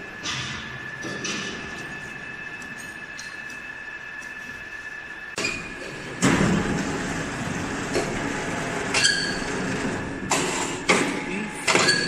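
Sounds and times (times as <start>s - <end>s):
factory machinery noise: 0.0s - 12.0s.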